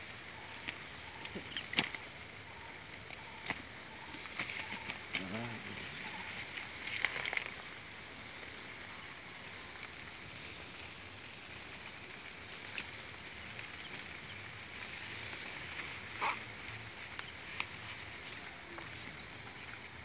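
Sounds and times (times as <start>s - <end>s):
net and grass rustling: 0.0s - 20.0s.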